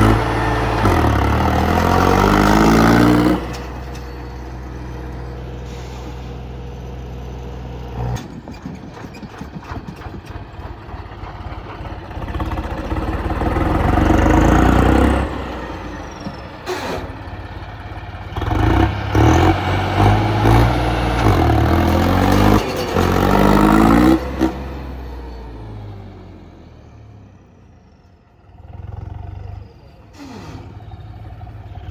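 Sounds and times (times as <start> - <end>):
tractor diesel engine revving: 0.0 - 31.9.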